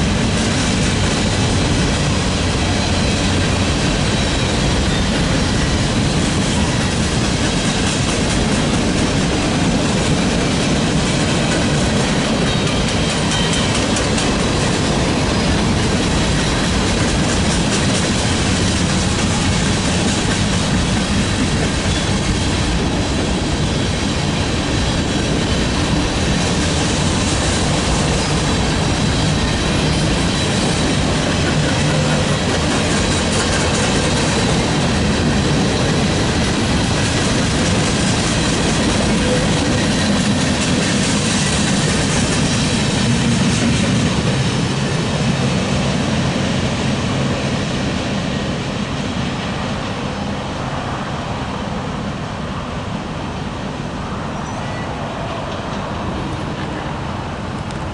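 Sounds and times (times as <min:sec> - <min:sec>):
freight train wheels on rails: 0:00.0 - 0:57.9.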